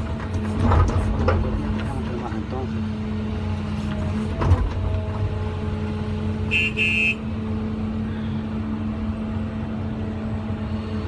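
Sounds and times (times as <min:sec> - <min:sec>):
truck engine drone: 0:00.0 - 0:11.0.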